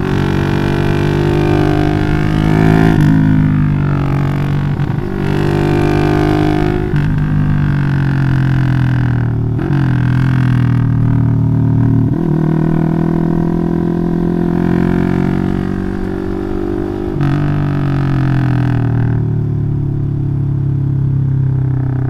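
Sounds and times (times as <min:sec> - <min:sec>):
motorcycle exhaust at high rpm: 0:00.0 - 0:22.0.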